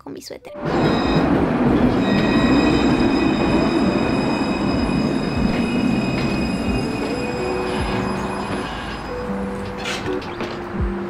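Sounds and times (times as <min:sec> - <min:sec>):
tram wheels rumbling on rail: 0:00.5 - 0:11.0
high whining tones: 0:00.6 - 0:10.9.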